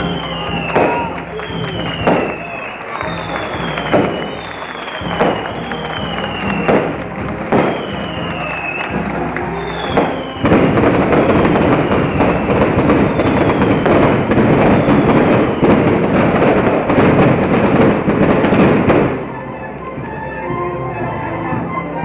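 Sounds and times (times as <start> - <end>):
firecrackers crackling and banging: 0.0 - 19.4.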